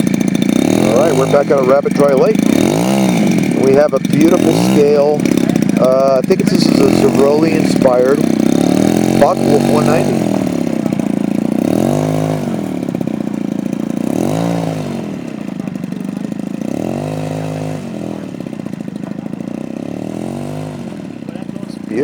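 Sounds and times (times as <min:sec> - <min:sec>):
two-stroke model aircraft engine: 0:00.0 - 0:22.0.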